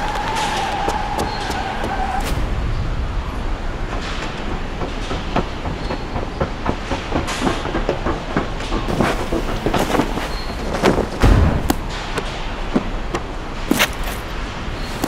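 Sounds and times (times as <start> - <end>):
low rumble with rapid clattering: 0.0 - 15.0.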